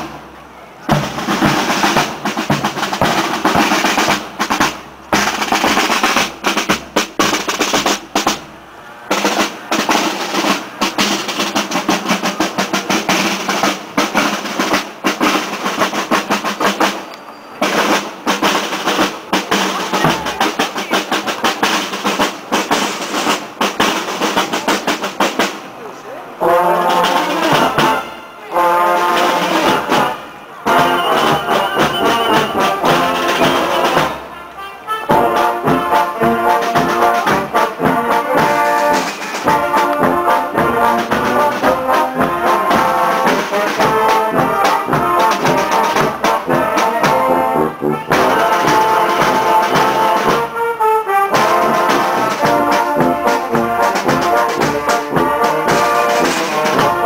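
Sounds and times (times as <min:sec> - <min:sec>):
brass band playing a march: 0:00.0 - 0:57.0
drums keeping steady beat: 0:00.0 - 0:57.0.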